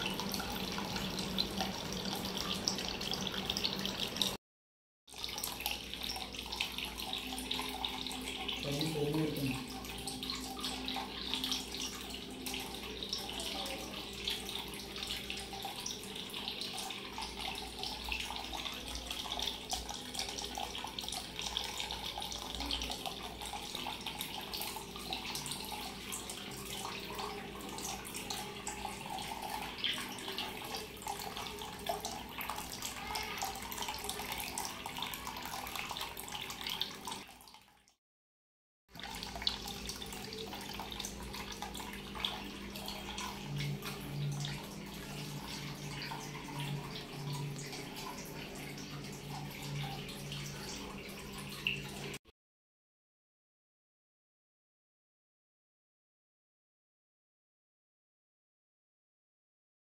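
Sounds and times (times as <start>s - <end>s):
water splashing into tank: 0.0s - 4.4s, 5.1s - 37.9s, 38.9s - 52.2s.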